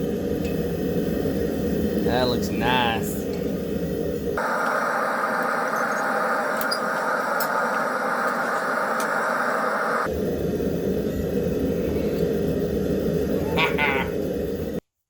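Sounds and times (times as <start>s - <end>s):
forge burner rushing: 0.0s - 14.8s.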